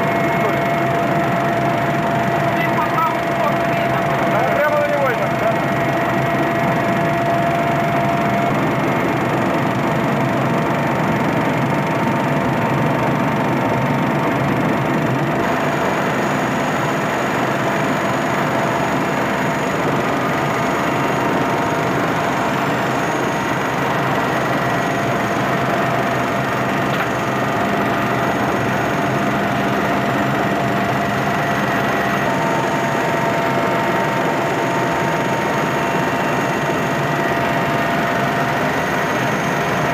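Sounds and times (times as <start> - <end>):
faint steady whines: 0.0 - 39.9
helicopter engine and rotor drone: 0.0 - 39.9.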